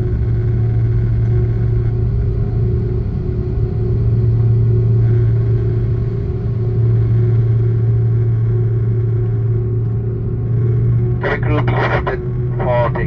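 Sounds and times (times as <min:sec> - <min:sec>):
airplane cabin engine drone: 0:00.0 - 0:13.0.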